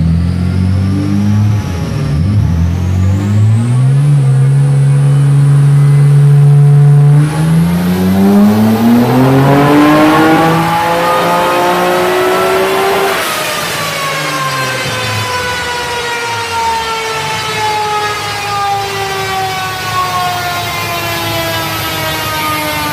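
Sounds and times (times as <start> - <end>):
car engine revving on dyno: 0.0 - 22.9.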